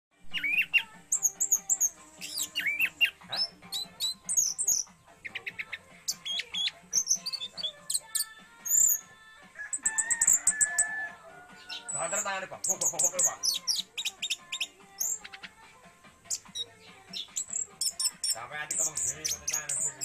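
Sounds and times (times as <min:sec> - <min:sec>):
thrush singing: 0:00.1 - 0:20.0.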